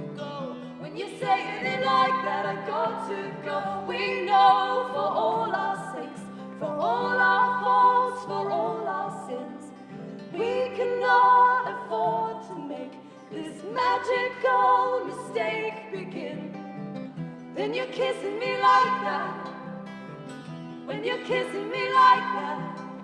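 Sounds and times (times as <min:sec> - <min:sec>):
sung vocal harmonies: 0:00.0 - 0:20.0, 0:20.7 - 0:23.0.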